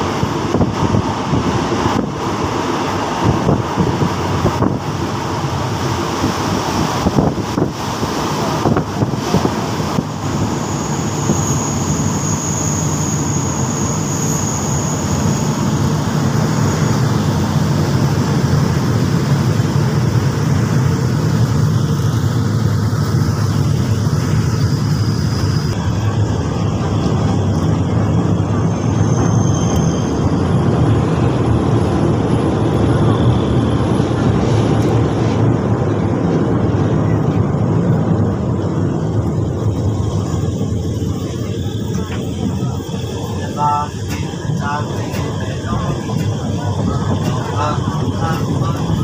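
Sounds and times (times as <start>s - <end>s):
train wheels rumbling on rails: 0.0s - 49.0s
thin high whine: 8.6s - 36.4s, 37.2s - 49.0s.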